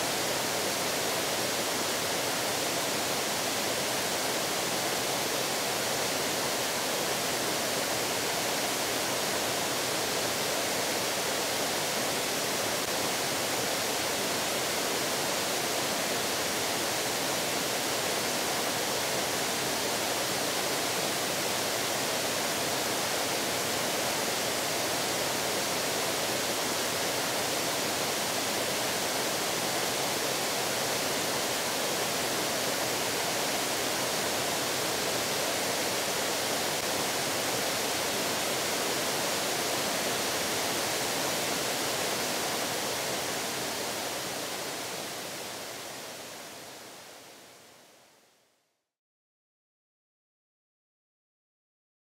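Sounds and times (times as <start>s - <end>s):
stream water rushing: 0.0s - 47.3s.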